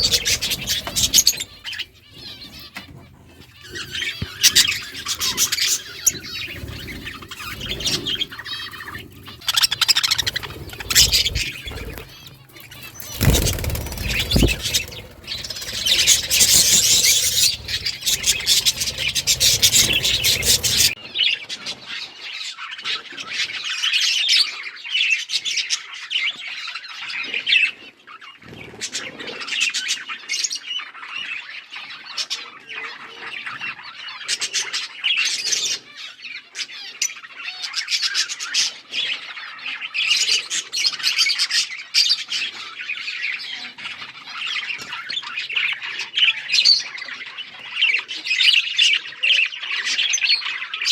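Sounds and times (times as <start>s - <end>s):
budgies chirping and squawking: 0.0s - 50.9s.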